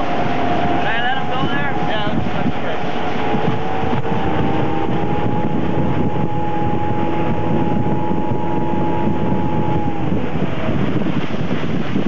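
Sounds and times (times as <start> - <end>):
motorboat engine whine: 0.0 - 12.0
rush of wind and water: 0.0 - 12.0.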